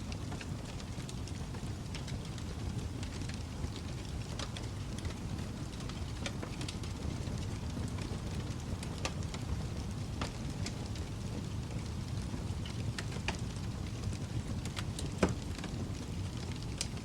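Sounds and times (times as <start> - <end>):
wood fire crackling and popping: 0.0 - 17.0
fire rushing: 0.1 - 17.0.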